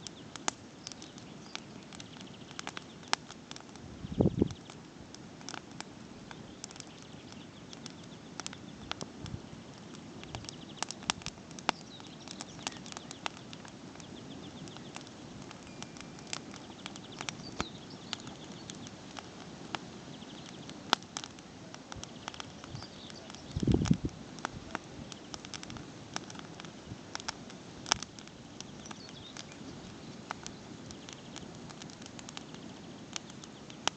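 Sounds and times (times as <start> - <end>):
campfire pops and snaps: 0.0 - 33.9
low fire hiss: 0.0 - 33.9.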